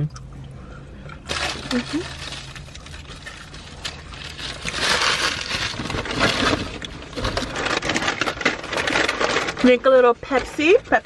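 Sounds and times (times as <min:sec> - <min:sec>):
paper packaging rustling: 0:01.3 - 0:10.8.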